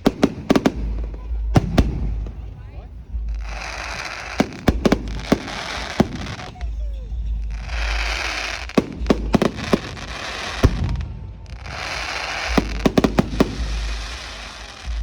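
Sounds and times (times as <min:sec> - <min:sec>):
fireworks cracking and banging: 0:00.0 - 0:15.0
fireworks hissing: 0:00.0 - 0:15.0.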